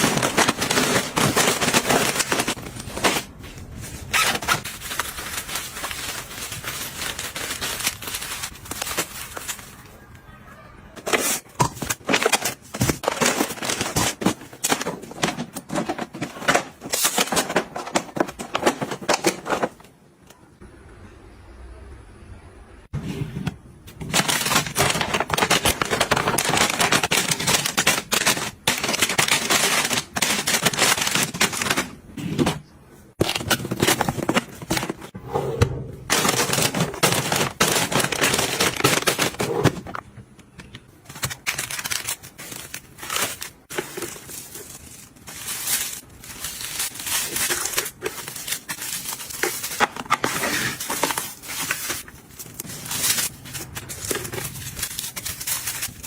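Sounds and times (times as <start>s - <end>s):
packaging crinkling and rustling: 0.0s - 10.2s, 11.0s - 19.9s, 24.1s - 32.5s, 33.1s - 35.2s, 36.1s - 40.0s, 40.6s - 56.0s.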